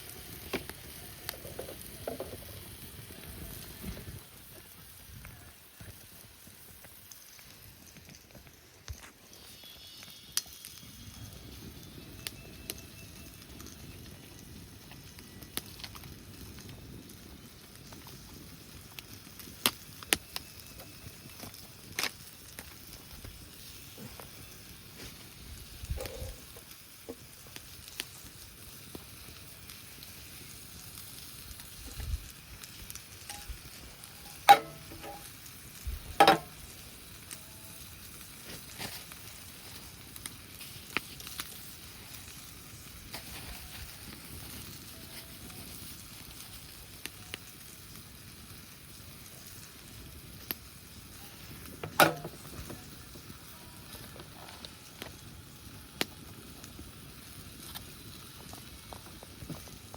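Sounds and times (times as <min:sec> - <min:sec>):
fire crackles: 0:00.0 - 0:59.9
food sizzling over campfire: 0:00.0 - 0:59.9.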